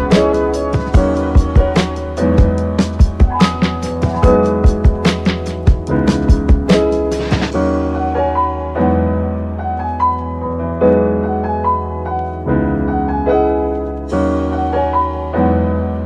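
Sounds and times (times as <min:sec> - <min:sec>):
keyboard chords with bass: 0:00.0 - 0:16.0.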